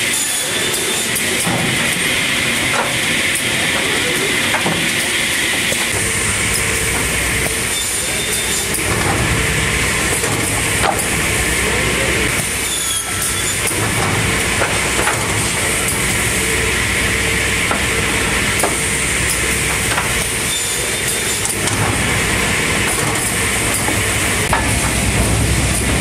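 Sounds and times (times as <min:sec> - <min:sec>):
machinery humming and hissing: 0:00.0 - 0:26.0.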